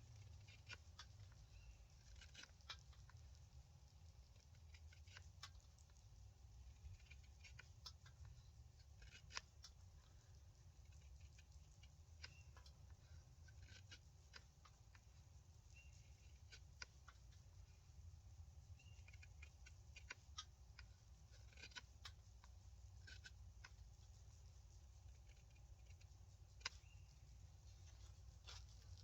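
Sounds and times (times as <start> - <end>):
small ticks: 0.0 - 29.0.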